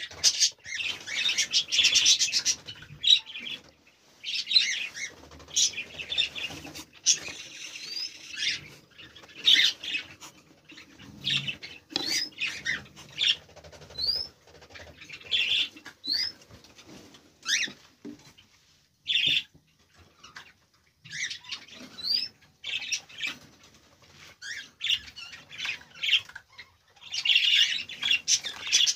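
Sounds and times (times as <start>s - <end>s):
cockatiels chirping and calling: 0.0s - 16.6s, 17.4s - 18.4s, 19.0s - 28.9s.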